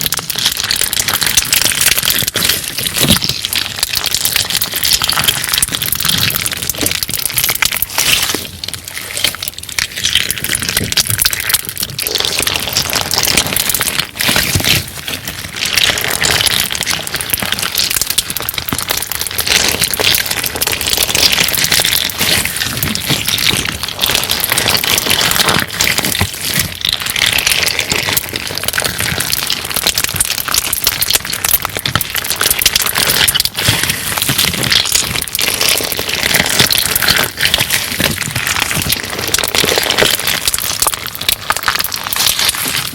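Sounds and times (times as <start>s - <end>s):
crunchy slime crackling: 0.0s - 42.9s.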